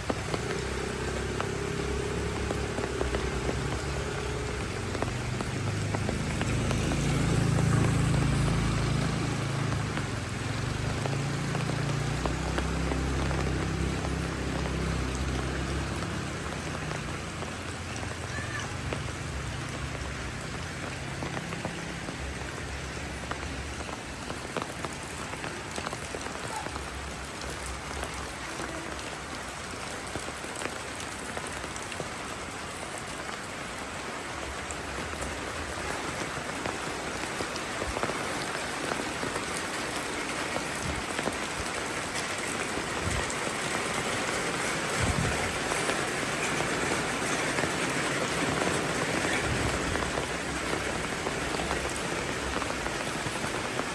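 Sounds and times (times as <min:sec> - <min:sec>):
steady rainfall: 0:00.0 - 0:53.9.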